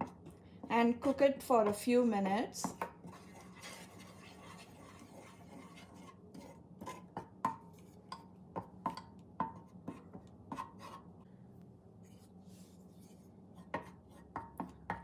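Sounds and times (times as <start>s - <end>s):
wooden spoon stirring thick sauce: 0.0s - 11.2s, 12.0s - 15.0s.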